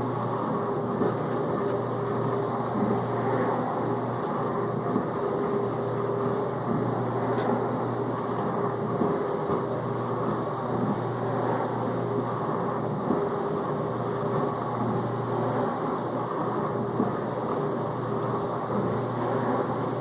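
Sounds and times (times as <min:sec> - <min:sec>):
dishwasher pump humming: 0:00.0 - 0:20.0.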